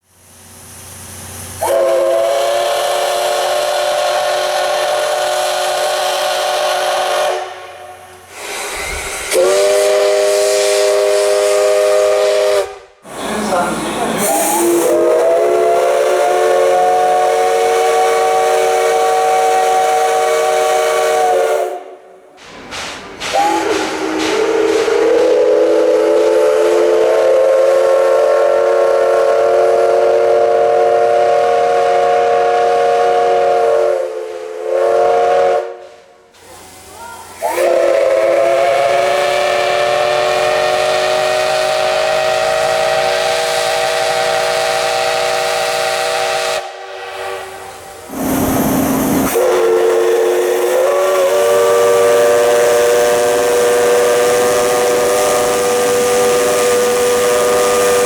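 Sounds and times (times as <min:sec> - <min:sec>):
hissing steam: 0:00.0 - 0:58.0
steam locomotive whistle: 0:01.6 - 0:22.1, 0:23.2 - 0:58.0.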